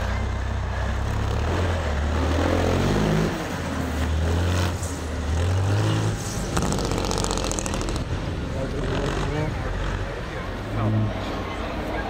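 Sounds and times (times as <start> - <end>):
diesel engine revving: 0.0 - 11.2.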